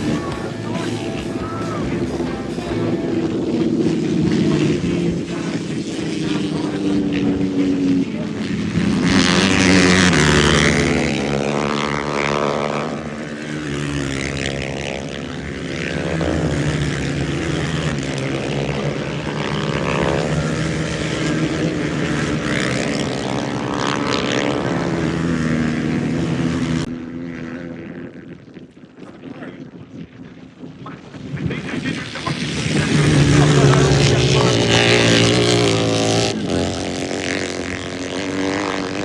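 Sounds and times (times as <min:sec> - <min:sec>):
racing motorcycles passing: 0:00.0 - 0:39.0.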